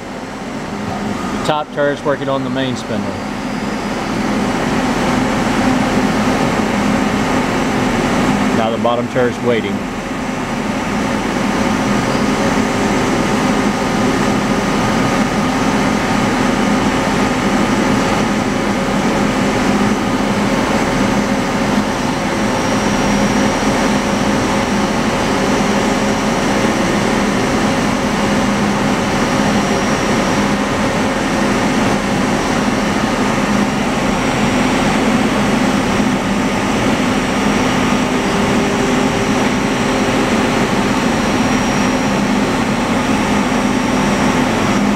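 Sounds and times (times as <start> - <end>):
machine humming: 0.0 - 44.9.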